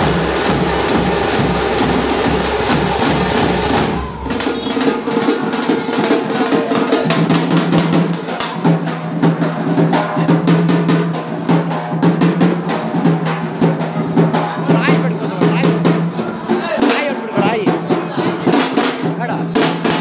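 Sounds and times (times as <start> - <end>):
drum band playing: 0.0 - 20.0.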